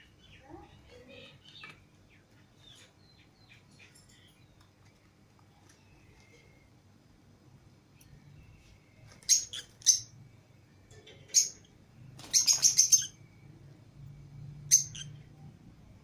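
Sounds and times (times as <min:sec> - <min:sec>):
lovebirds chirping: 0:00.0 - 0:06.7, 0:07.9 - 0:15.6.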